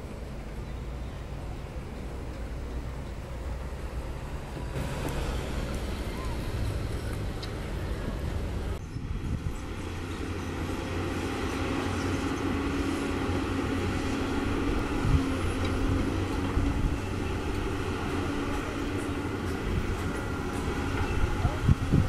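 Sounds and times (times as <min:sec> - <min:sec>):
excavator diesel engine drone: 0:00.0 - 0:22.0.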